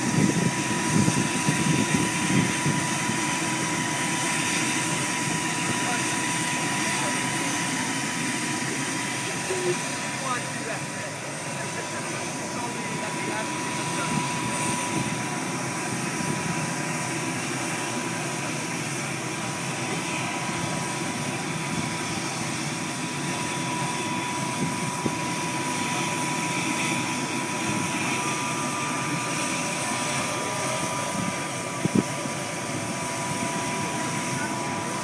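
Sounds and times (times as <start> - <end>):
helicopter turbine whine: 0.0 - 35.0.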